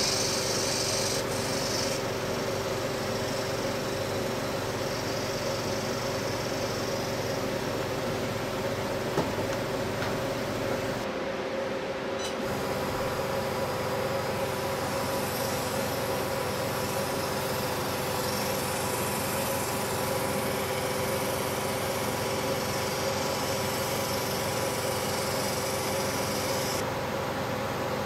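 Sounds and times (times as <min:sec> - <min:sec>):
machine mechanical hum: 0:00.0 - 0:28.0.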